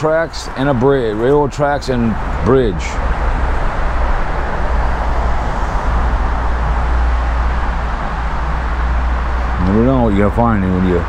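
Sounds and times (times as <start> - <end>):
highway traffic rumble and hiss: 0.0 - 11.0.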